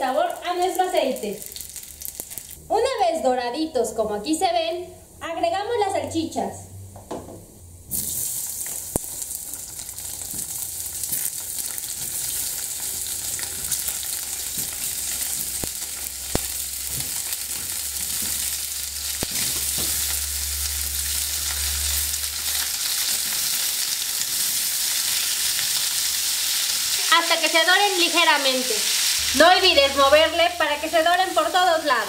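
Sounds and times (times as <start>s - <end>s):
sausage sizzling in hot oil: 0.0s - 2.6s, 7.9s - 32.0s.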